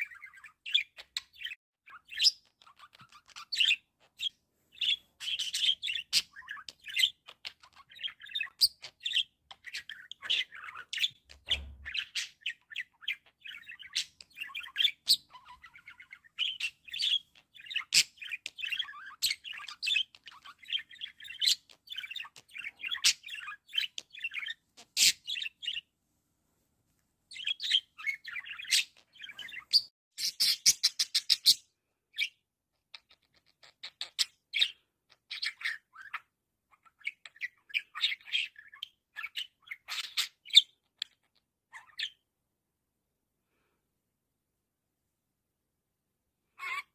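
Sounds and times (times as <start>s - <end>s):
budgerigar warbling and chattering: 0.0s - 25.8s, 27.3s - 31.6s, 32.2s - 42.2s, 46.6s - 46.9s.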